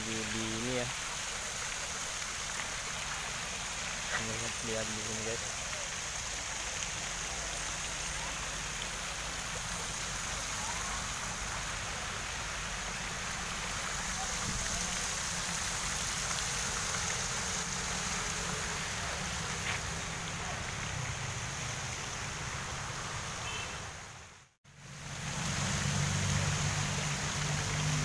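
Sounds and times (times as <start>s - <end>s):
fountain water splashing: 0.0s - 28.0s.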